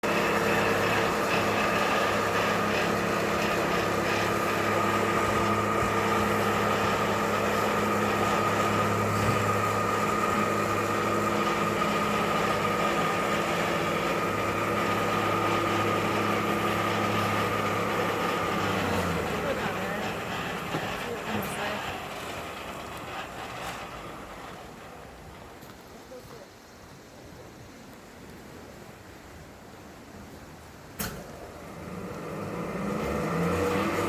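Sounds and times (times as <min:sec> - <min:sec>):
motor humming: 0:00.0 - 0:25.4, 0:31.1 - 0:34.0.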